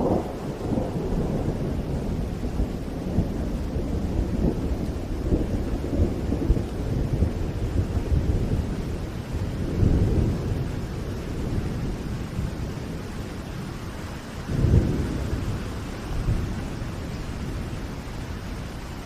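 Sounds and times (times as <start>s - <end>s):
low rolling thunder: 0.0s - 19.0s
steady rain: 0.0s - 19.0s.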